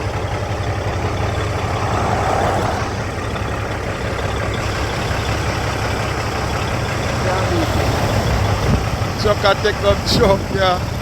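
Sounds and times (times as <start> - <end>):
heavy truck engine running: 0.0 - 11.0
road and traffic noise: 0.0 - 11.0.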